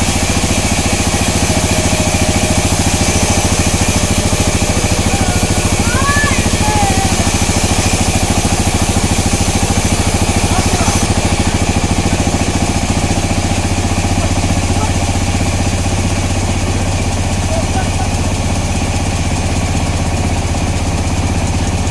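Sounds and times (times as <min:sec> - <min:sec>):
sawmill engine running: 0:00.0 - 0:21.9.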